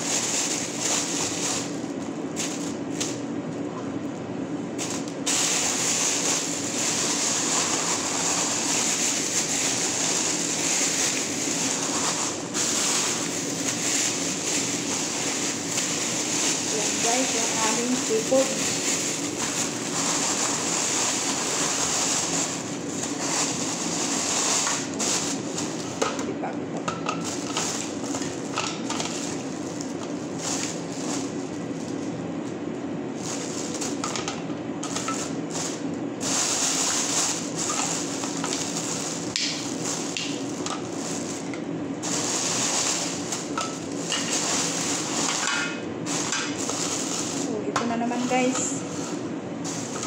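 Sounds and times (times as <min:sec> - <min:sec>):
plastic bags rustling: 0:00.0 - 0:03.3, 0:04.8 - 0:26.0, 0:27.2 - 0:50.0
steady low hum: 0:00.0 - 0:50.0.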